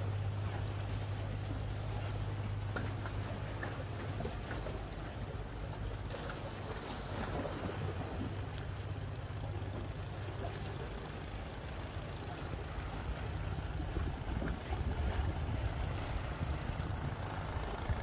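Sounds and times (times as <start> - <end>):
boat engine humming: 0.0 - 18.0
water noise: 0.0 - 18.0
wind: 0.0 - 18.0.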